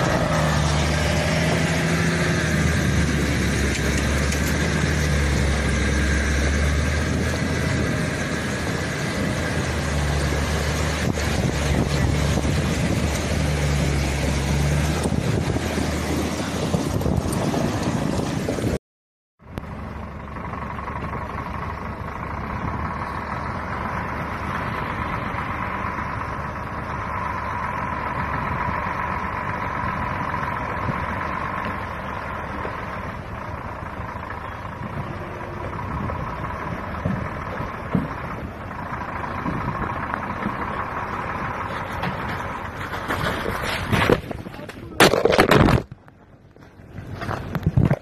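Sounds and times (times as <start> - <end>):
truck diesel engine running: 0.0 - 18.8, 19.4 - 48.0.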